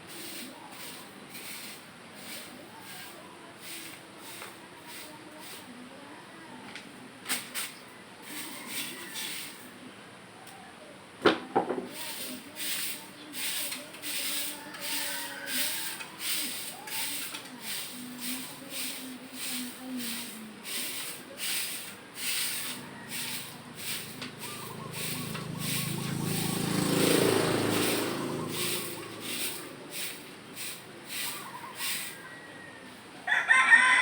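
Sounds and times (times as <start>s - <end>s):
sweeping strokes on ground: 0.0s - 6.0s, 6.9s - 9.9s, 11.9s - 34.0s.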